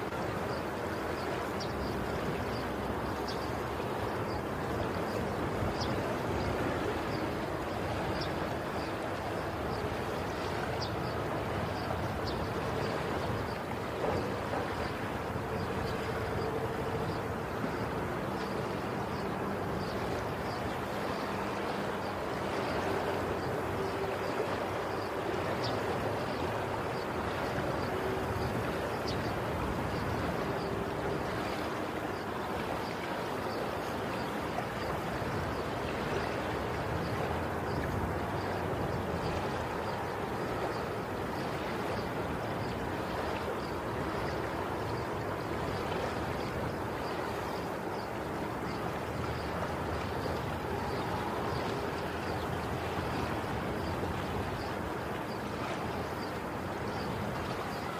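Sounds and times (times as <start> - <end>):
rushing water: 0.0 - 57.9.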